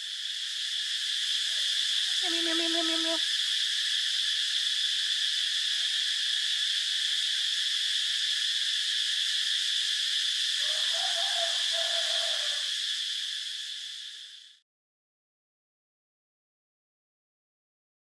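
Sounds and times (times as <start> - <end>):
insects droning: 0.0 - 14.6.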